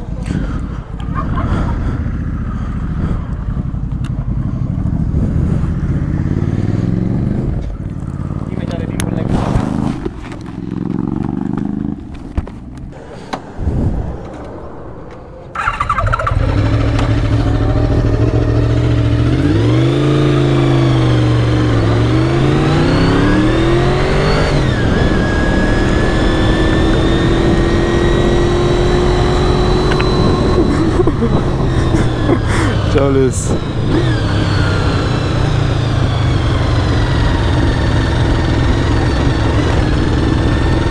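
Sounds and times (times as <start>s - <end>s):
motorcycle engine revving: 0.0s - 13.0s, 15.4s - 40.9s.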